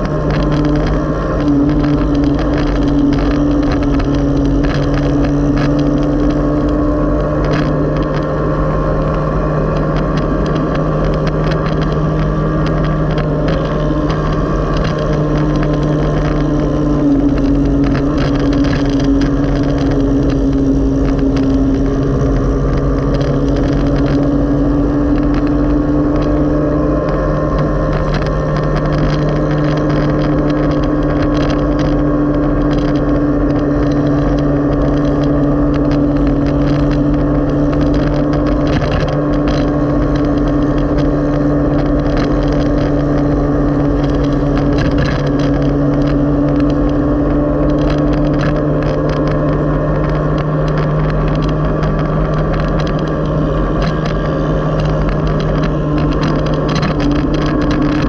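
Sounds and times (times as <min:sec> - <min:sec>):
motorcycle engine cruising: 0:00.0 - 0:58.0
road rumble: 0:00.0 - 0:58.0
wind: 0:00.0 - 0:58.0.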